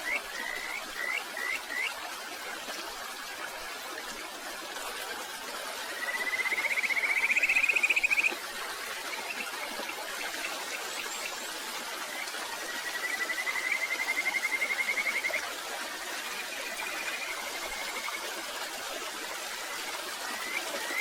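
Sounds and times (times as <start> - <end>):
stream water running: 0.0 - 21.0.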